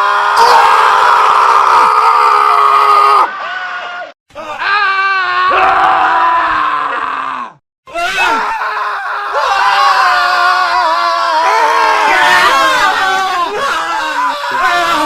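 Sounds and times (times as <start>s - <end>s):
men screaming: 0.0s - 15.0s.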